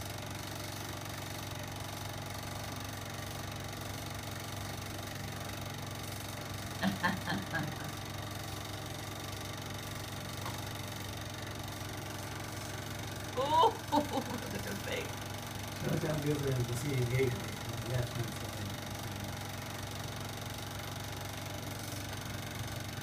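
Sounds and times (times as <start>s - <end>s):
film projector humming: 0.0s - 23.0s.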